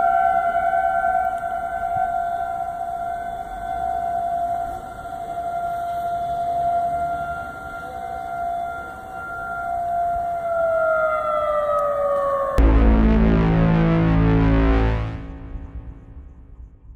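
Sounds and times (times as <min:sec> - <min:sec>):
warning siren: 0:00.0 - 0:16.8.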